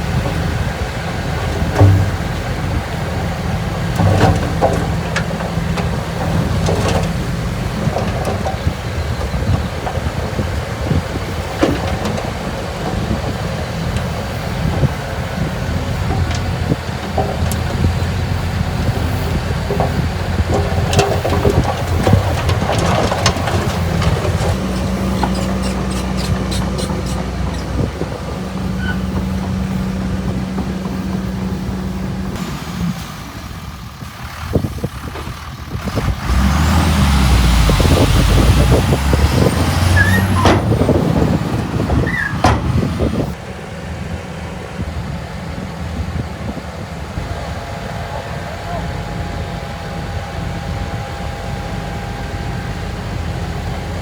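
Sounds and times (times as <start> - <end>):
heavy diesel engines working: 0.0 - 54.0.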